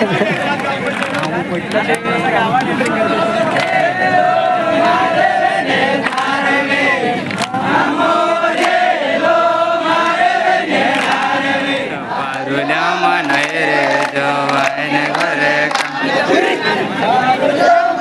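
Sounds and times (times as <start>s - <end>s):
group singing a chant-like song: 2.2s - 18.0s
low voice singing: 2.8s - 18.0s.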